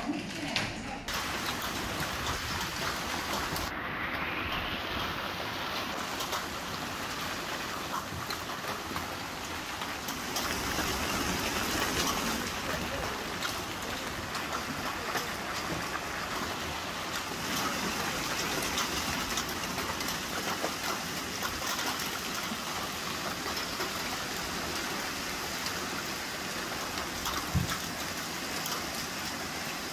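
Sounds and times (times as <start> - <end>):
hailstones clicking: 0.0 - 29.9
heavy rain hissing: 0.1 - 29.9.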